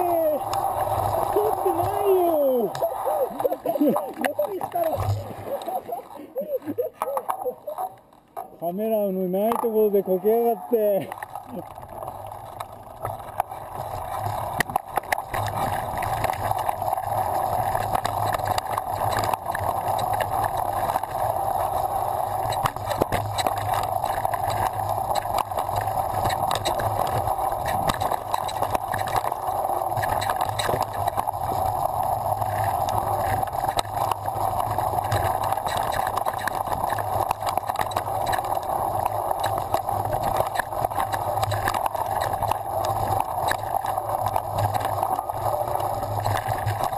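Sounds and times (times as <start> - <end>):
rushing tyres and wind: 0.0 - 1.9, 11.1 - 46.9.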